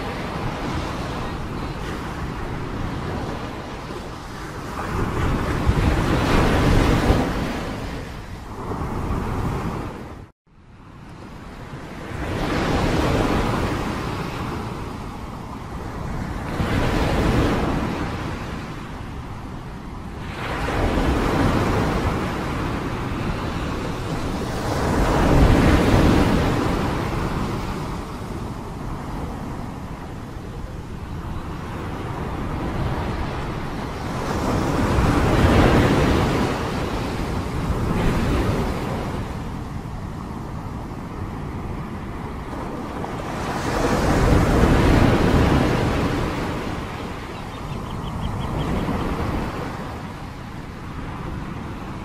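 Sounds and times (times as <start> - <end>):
crashing waves: 0.0 - 10.3, 11.5 - 52.0
gusting wind: 0.0 - 52.0.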